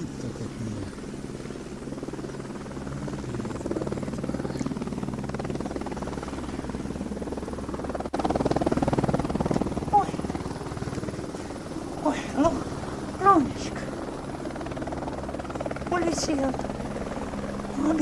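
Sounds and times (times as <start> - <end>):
helicopter rotor chopping: 0.0 - 18.0.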